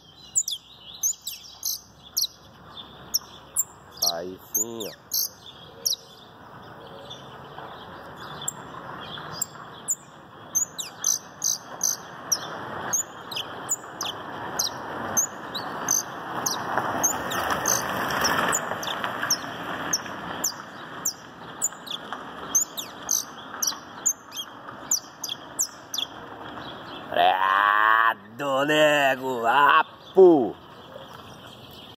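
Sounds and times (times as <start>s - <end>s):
canary singing: 0.0s - 27.2s
rushing background noise: 1.1s - 29.8s.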